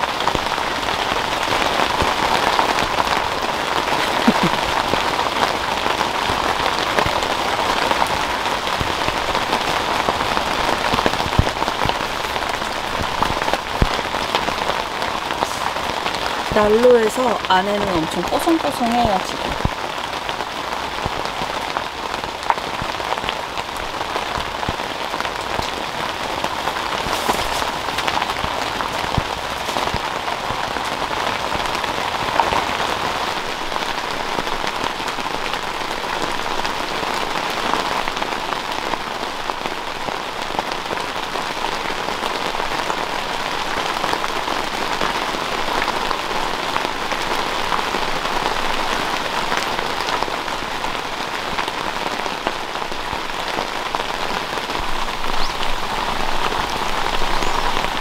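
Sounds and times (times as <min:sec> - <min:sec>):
rain pattering on a roof: 0:00.0 - 0:58.0.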